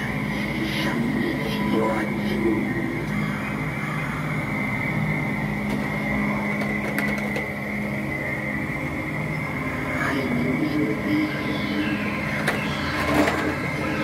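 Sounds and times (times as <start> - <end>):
mechanical whirring drone: 0.0 - 14.0.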